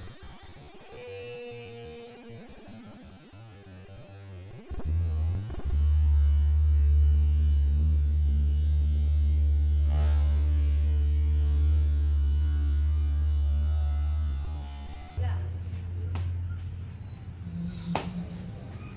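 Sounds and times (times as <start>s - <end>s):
loud steady low hum: 0.0s - 18.6s.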